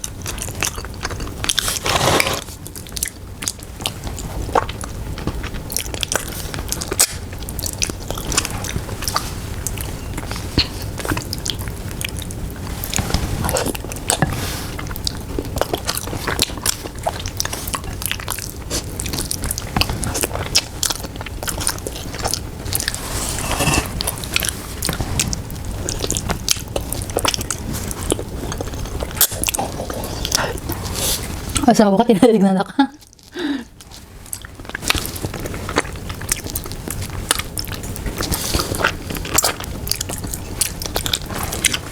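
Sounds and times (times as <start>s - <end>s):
person chewing food: 0.0s - 31.7s, 33.0s - 41.9s.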